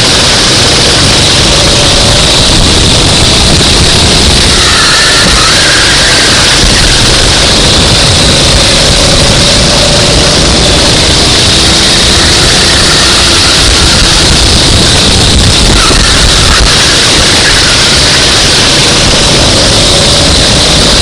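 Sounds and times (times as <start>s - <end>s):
kart engine running: 0.0s - 21.0s
loud rush of noise: 0.0s - 21.0s.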